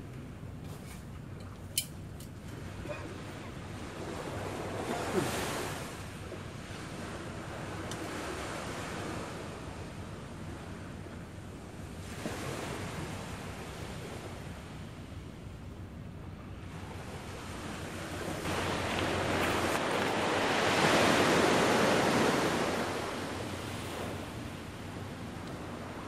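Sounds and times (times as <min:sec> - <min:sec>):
small waves washing onto beach: 0:02.4 - 0:15.6, 0:16.5 - 0:26.0.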